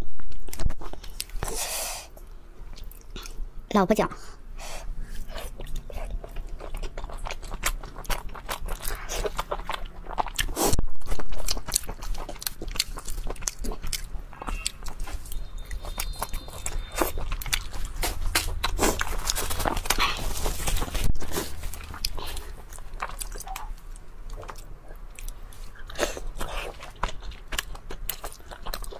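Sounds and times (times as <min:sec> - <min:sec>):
person chewing food: 0:00.4 - 0:03.5, 0:04.9 - 0:28.9.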